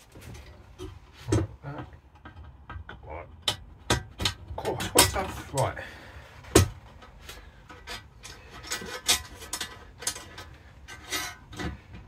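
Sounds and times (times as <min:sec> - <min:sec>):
metal clicks and knocks: 0:00.7 - 0:05.7, 0:06.5 - 0:12.0.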